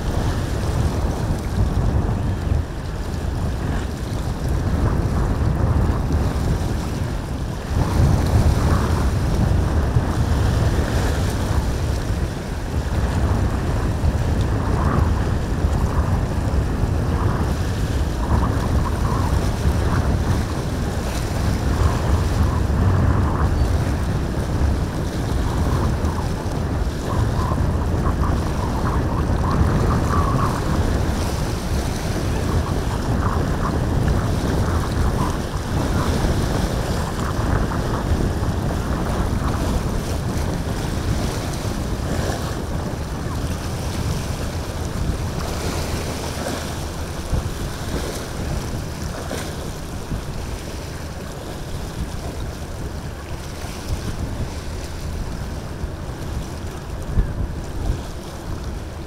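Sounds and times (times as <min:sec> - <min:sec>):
surf and breaking waves: 0:00.0 - 0:59.0
wind buffeting microphone: 0:00.0 - 0:59.0.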